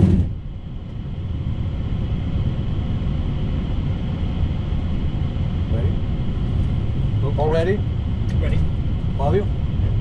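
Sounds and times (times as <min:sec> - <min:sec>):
aircraft engine and rolling rumble: 0:00.0 - 0:10.0.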